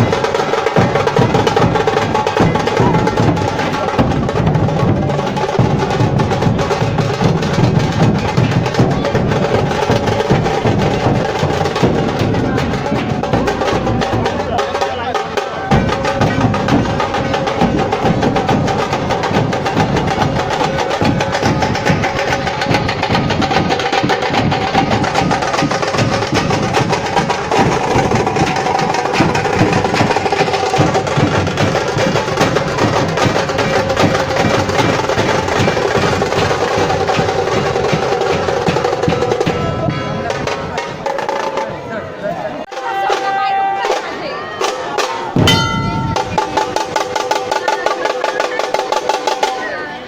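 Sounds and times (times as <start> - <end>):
group of drums beaten fast: 0.0 - 42.0, 42.6 - 50.0.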